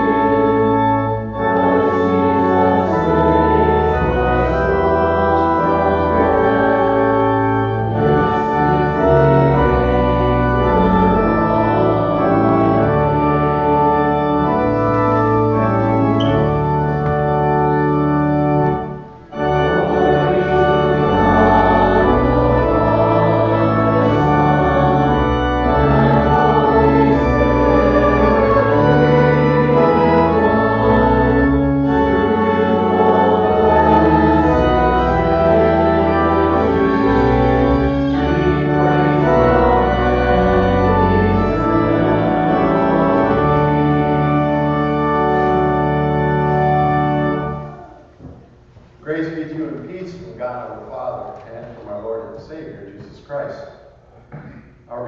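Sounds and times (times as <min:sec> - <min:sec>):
church organ playing hymn: 0:00.0 - 0:54.3.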